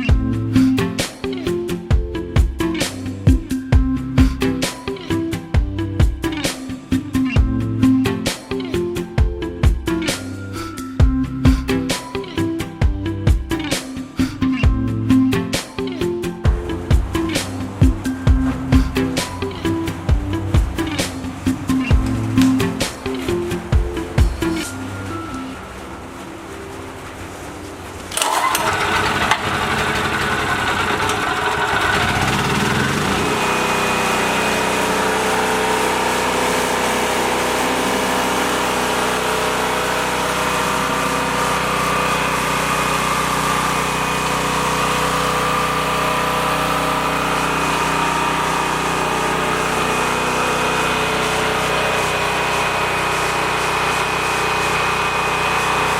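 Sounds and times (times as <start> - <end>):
generator engine starting and running: 0.0 - 26.1, 27.0 - 55.9.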